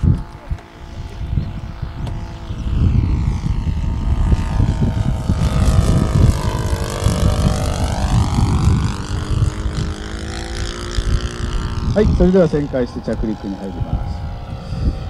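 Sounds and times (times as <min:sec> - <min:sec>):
model plane engine flyby: 0:00.0 - 0:15.0
wind rumbling on microphone: 0:00.0 - 0:15.0.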